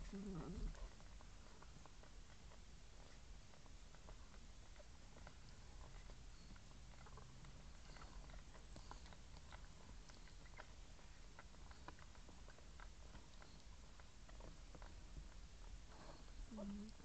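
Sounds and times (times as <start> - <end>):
dog licking puppies: 0.0 - 17.0
steady low hum: 0.0 - 17.0.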